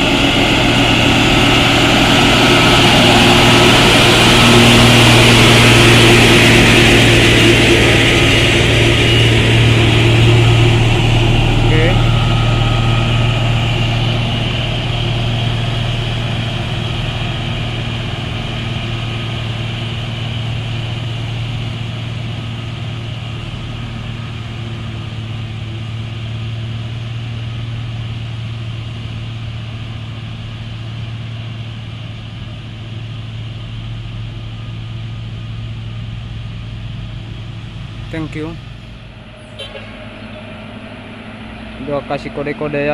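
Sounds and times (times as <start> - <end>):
truck diesel engine running: 0.0 - 42.9.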